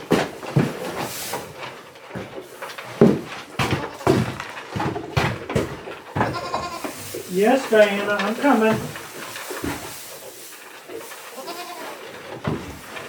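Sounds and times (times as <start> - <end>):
hay rustling: 0.0 - 5.2, 5.8 - 13.0
feeders knocking: 0.0 - 13.0.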